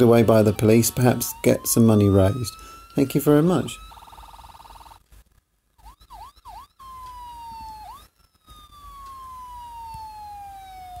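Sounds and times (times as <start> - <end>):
police car siren: 0.0 - 5.0, 5.8 - 11.0.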